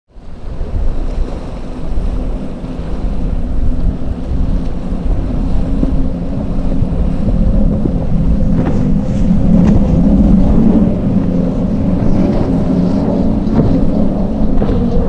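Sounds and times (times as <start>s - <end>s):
boat engine humming: 0.1s - 15.0s
rough water wash: 0.1s - 15.0s
wind buffeting microphone: 0.1s - 15.0s.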